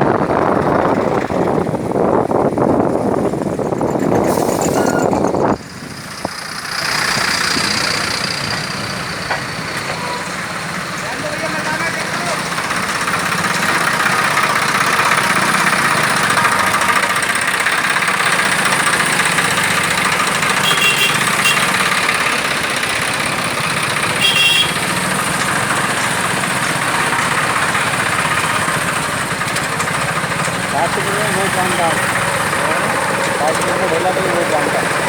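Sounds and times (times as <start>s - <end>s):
traffic engines idling: 0.0s - 35.0s.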